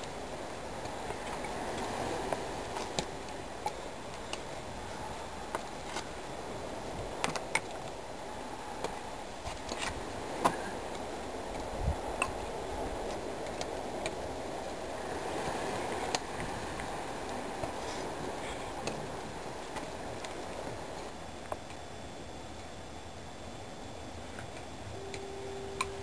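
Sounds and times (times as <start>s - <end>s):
low background rush: 0.0s - 26.0s.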